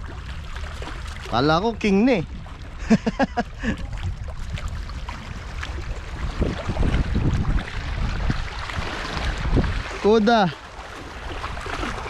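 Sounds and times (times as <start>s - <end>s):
sea waves washing: 0.0s - 12.0s
wind buffeting microphone: 0.0s - 12.0s.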